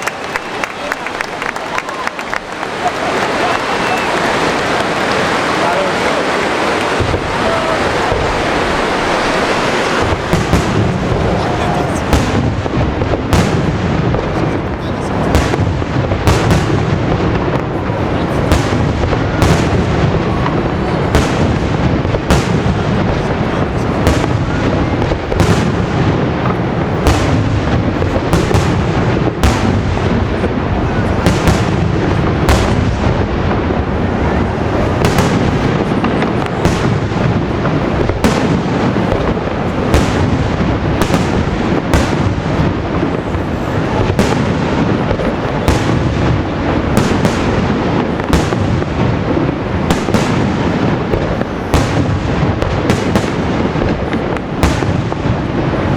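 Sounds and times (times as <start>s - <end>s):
rumble of bursting fireworks: 0.0s - 55.9s
sharp firework reports: 0.0s - 55.9s.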